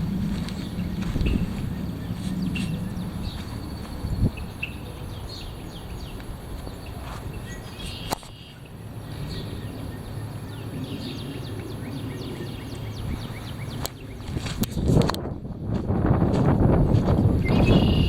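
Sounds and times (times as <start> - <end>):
small birds chirping: 0.0 - 14.5, 17.4 - 18.0
wind buffeting microphone: 0.0 - 18.0.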